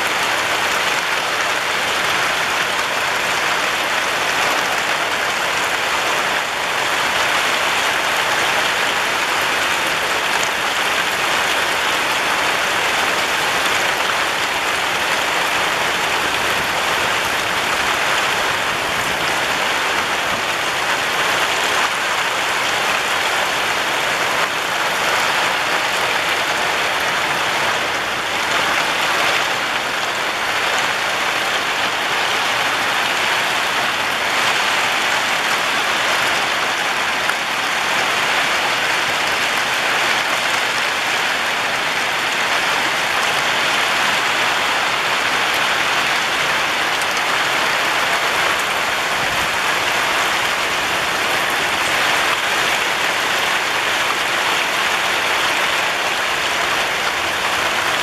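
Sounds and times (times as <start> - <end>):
heavy rain on tile roofs: 0.0 - 58.0.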